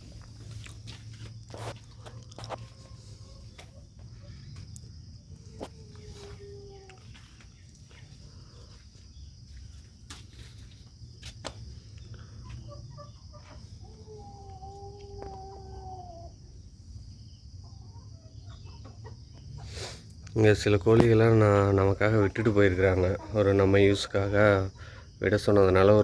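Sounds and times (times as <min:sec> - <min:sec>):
hens calling: 0:00.0 - 0:09.0, 0:11.5 - 0:16.9, 0:17.6 - 0:26.0.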